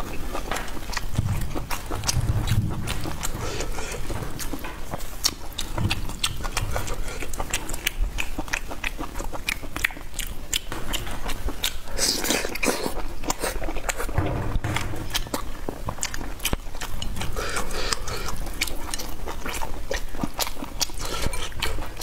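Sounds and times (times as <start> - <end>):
close biting and chewing: 0.0 - 22.0.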